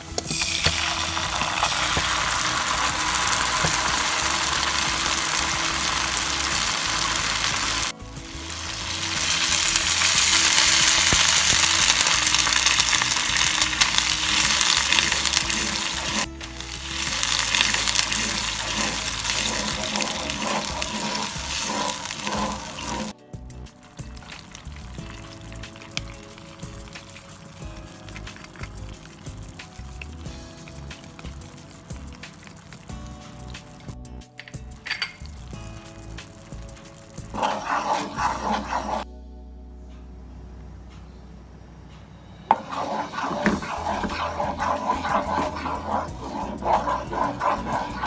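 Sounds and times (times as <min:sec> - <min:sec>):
garlic sizzling in oil: 0:00.0 - 0:23.2, 0:23.8 - 0:39.0, 0:42.5 - 0:48.0
wooden spatula stirring: 0:00.3 - 0:23.2, 0:23.9 - 0:35.0, 0:36.6 - 0:39.0, 0:42.5 - 0:48.0.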